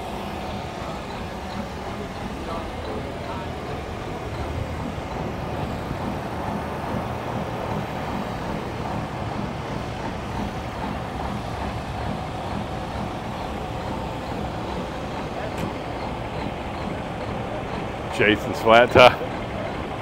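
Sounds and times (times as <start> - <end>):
diesel truck engines idling: 0.0 - 20.0.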